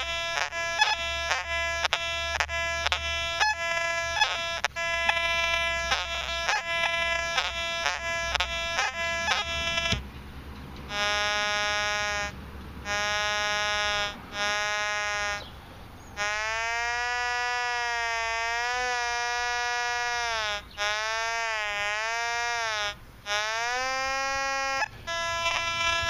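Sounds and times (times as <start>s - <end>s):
metal detector tones: 0.0s - 10.0s, 10.9s - 15.5s, 16.2s - 26.0s
wavering metal detector tone: 0.0s - 10.0s, 10.9s - 15.4s, 16.2s - 26.0s.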